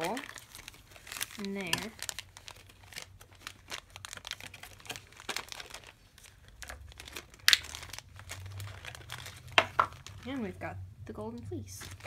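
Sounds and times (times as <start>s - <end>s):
packaging crinkling and tearing: 0.0s - 10.5s, 11.8s - 12.0s.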